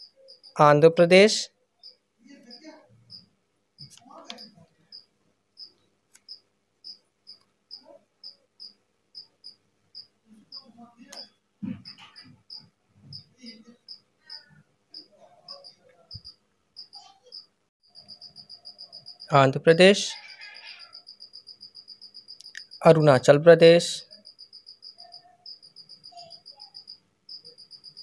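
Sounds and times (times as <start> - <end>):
cricket chirping: 0.0 - 0.6, 1.8 - 23.0, 24.0 - 28.0.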